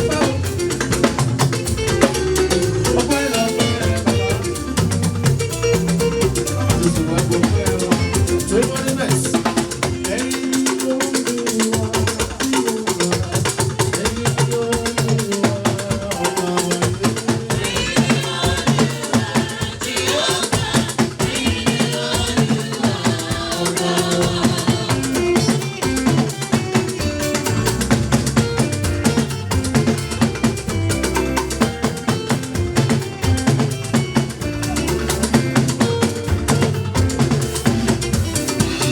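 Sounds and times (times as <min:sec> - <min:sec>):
drums: 0:00.0 - 0:38.9
lively church hymn music: 0:00.0 - 0:38.9
rattling shaker: 0:00.0 - 0:38.9.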